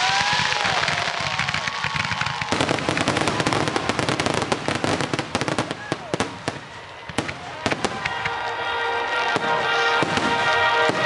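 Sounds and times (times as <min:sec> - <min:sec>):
firework bangs: 0:00.0 - 0:11.0
fireworks crackling: 0:00.0 - 0:11.0.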